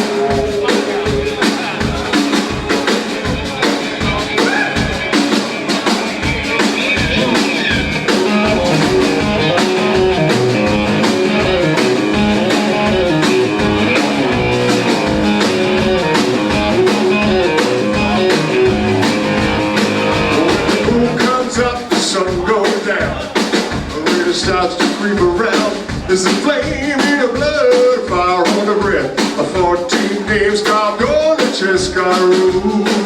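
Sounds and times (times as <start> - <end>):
rock band playing: 0.0 - 33.0
steady drum beat: 0.0 - 33.0.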